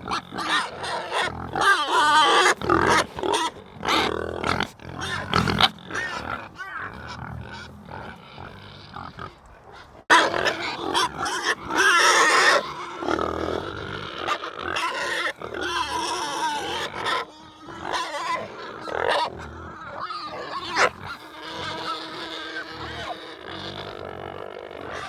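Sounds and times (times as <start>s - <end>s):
animal calling: 0.0s - 25.0s.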